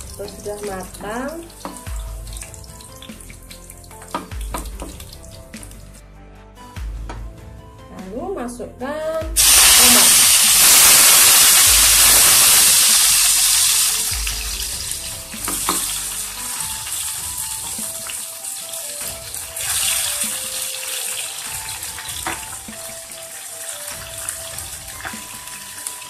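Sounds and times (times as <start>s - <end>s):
tomatoes frying in hot oil: 0.0s - 5.2s, 9.4s - 26.0s
bubbling and crackling oil: 0.0s - 6.0s, 9.4s - 26.0s.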